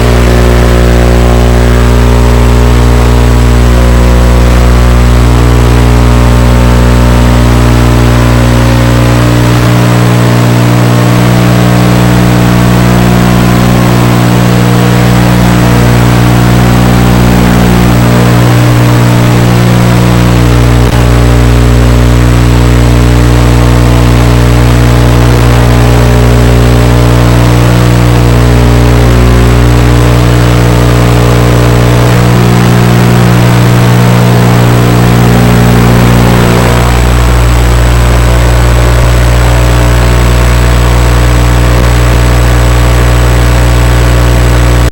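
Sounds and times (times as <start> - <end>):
drone propellers whining: 0.0 - 43.0.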